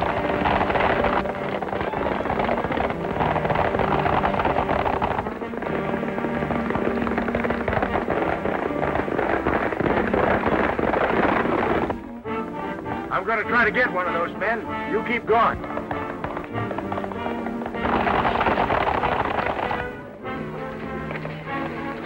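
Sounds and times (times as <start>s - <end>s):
horses galloping hoofbeats: 0.0s - 22.0s
orchestral chase music: 0.0s - 22.0s.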